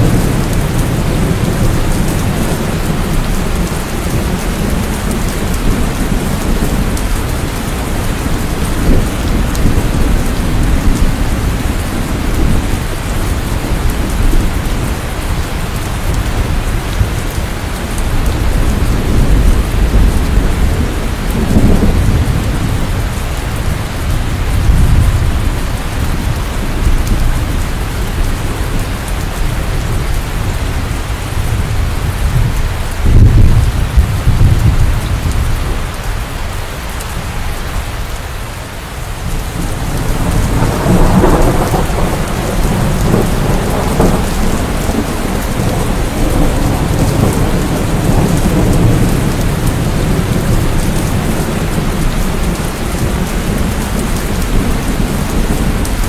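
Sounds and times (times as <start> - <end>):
low rumble of thunder: 0.0 - 38.2, 38.9 - 56.0
steady rain: 0.0 - 56.0.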